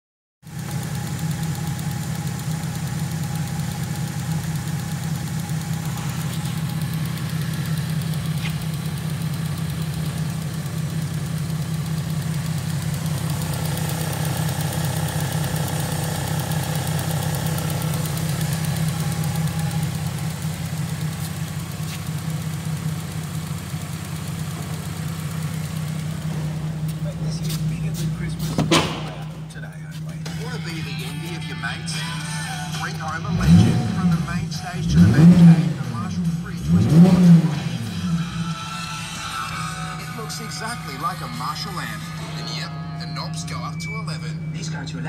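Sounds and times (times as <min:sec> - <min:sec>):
car engine idling: 0:00.4 - 0:45.0.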